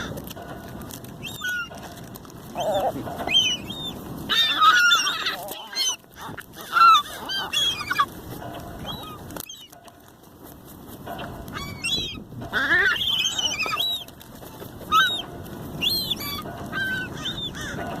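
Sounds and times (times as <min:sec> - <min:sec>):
seagulls squawking: 0:00.0 - 0:10.1, 0:10.9 - 0:18.0.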